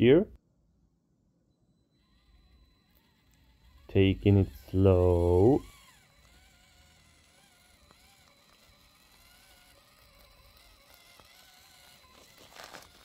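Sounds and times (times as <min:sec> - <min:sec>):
electric motor whine: 0:01.6 - 0:13.0.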